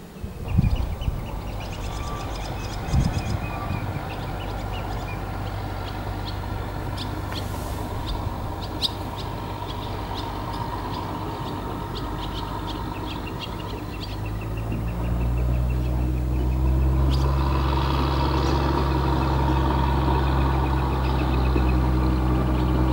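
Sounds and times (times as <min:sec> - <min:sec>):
bird chirps: 0:00.0 - 0:22.9
distant train rumble: 0:00.0 - 0:22.9.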